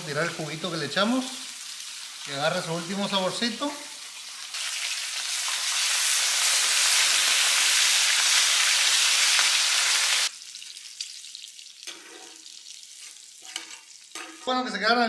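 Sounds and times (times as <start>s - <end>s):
fish sizzling in hot oil: 0.0s - 14.5s.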